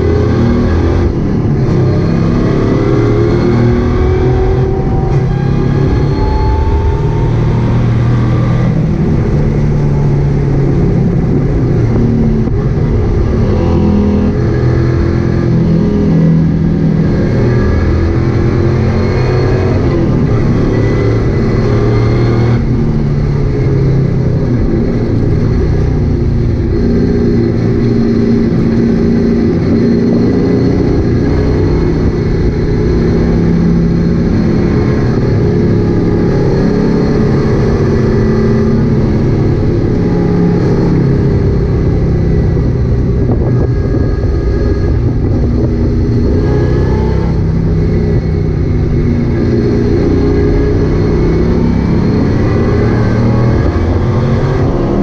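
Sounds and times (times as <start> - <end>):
car engine running hard: 0.0 - 55.0.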